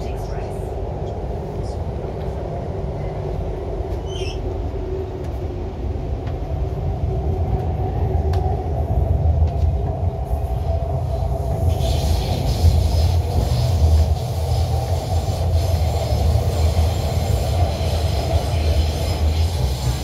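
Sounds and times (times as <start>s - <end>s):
train interior rumble and hum: 0.0s - 20.0s.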